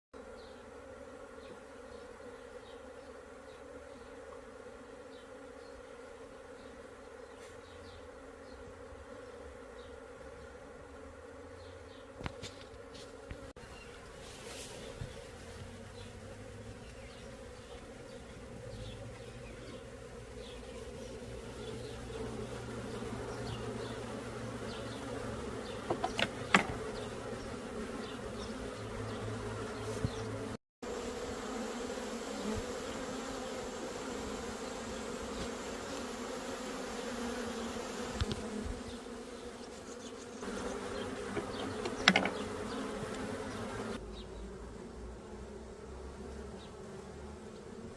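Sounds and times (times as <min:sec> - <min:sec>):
honeybees buzzing: 0:00.2 - 0:47.9.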